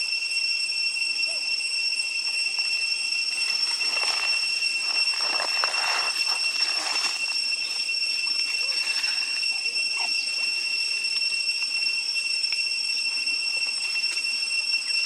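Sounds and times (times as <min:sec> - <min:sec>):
high-pitched two-tone whine: 0:00.0 - 0:15.0.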